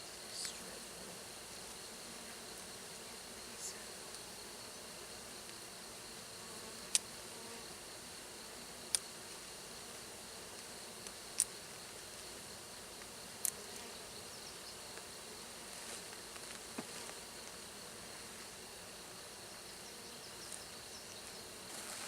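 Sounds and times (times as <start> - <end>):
honeybees buzzing: 0.3 - 22.0.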